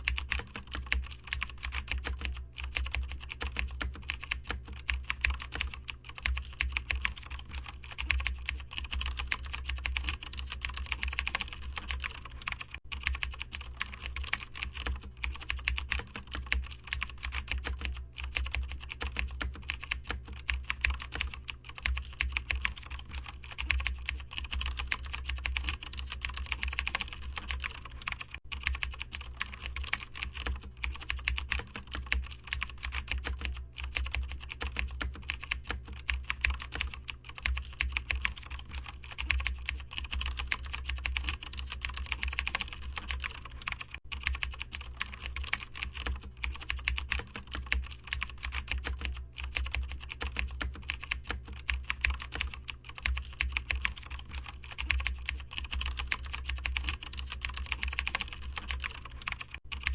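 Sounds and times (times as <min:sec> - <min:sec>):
fast typing on keyboard: 0:00.0 - 0:59.9
low steady hum: 0:00.0 - 0:59.9.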